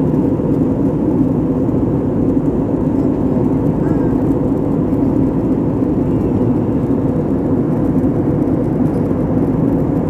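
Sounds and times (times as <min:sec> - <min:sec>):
airliner cabin engine drone: 0:00.0 - 0:10.0.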